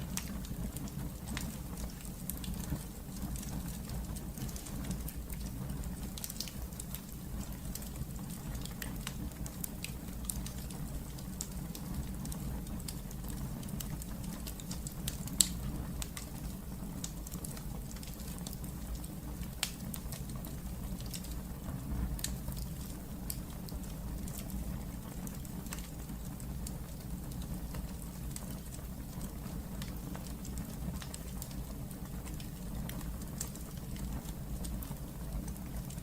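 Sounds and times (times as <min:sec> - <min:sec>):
low fire rumble: 0:00.0 - 0:36.0
wood fire crackling: 0:00.0 - 0:36.0.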